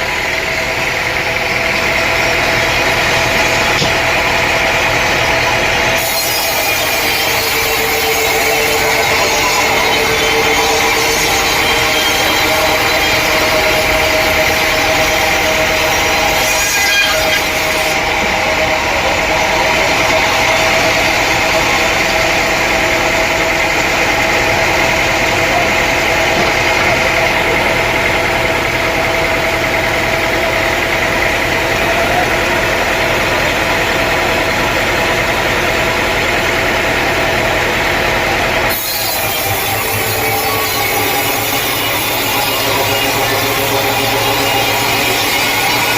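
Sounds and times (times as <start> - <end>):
sawmill saw cutting log: 0.0 - 45.9.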